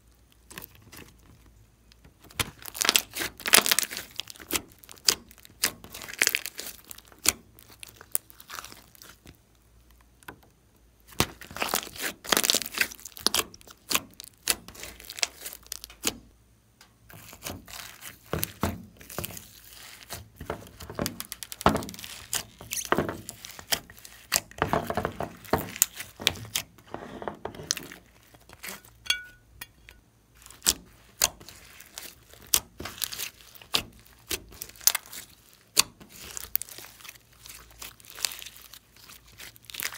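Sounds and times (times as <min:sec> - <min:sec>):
slime squished by hand: 0:02.2 - 0:10.0, 0:11.0 - 0:16.3, 0:17.1 - 0:26.8, 0:30.4 - 0:39.9.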